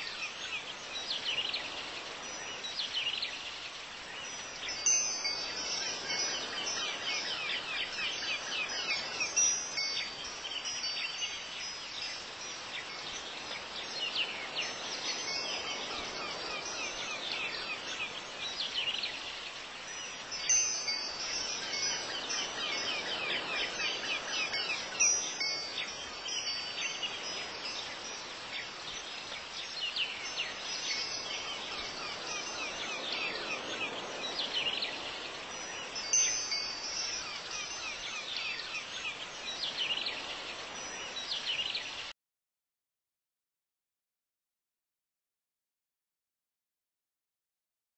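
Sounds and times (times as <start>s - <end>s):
wind chimes tinkling: 0.0s - 41.9s.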